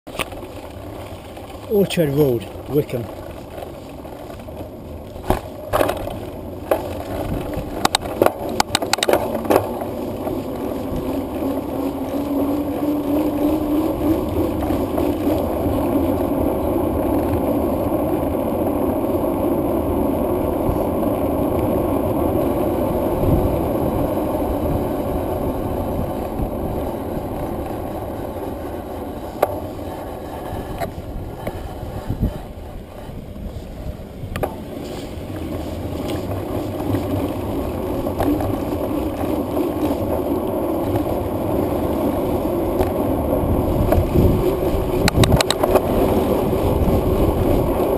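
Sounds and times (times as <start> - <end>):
wheels rolling over tarmac: 0.0 - 47.9
wind on microphone: 0.1 - 47.9.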